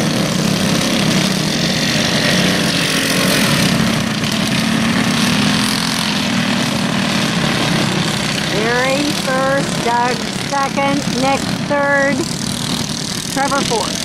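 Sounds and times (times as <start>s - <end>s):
go-kart engines running: 0.0s - 14.0s.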